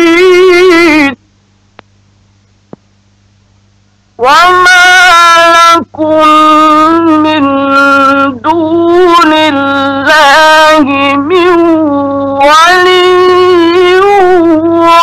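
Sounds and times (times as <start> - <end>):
man chanting melodically: 0.0 - 1.2, 4.2 - 15.0.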